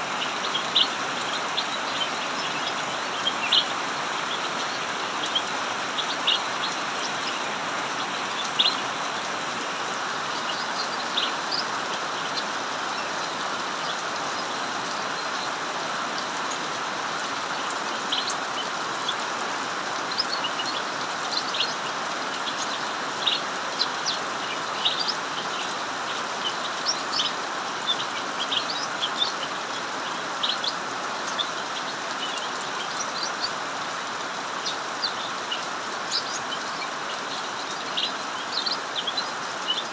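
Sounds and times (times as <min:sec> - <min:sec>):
bird chirping: 0:00.0 - 0:15.5, 0:20.1 - 0:39.9
heavy rain hiss: 0:00.0 - 0:39.9.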